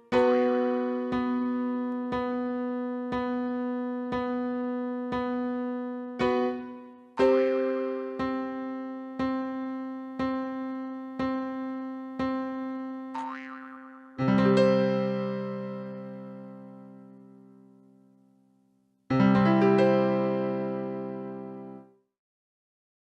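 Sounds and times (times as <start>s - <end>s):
keyboard chords: 0.0s - 18.2s, 19.1s - 21.9s.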